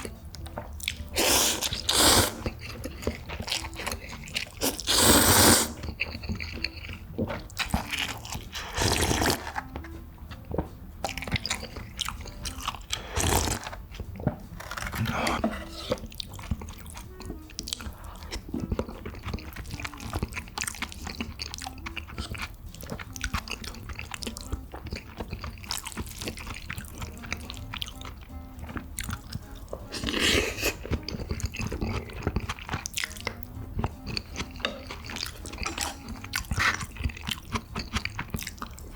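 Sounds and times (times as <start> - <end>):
chewing with wet mouth clicks: 0.0 - 38.9
soft background music: 0.0 - 38.9.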